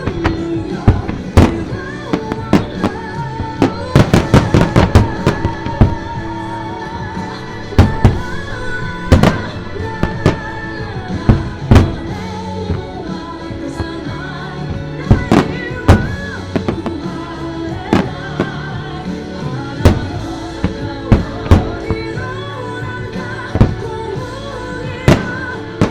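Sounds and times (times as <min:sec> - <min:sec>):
music with singer: 0:00.0 - 0:25.9.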